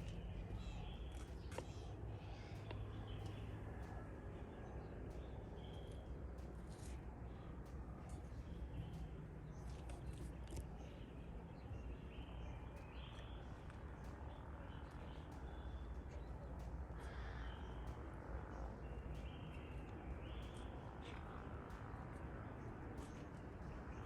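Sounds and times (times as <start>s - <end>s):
birds calling: 0.0s - 7.5s, 8.1s - 24.0s
steady low rumble: 0.0s - 24.0s.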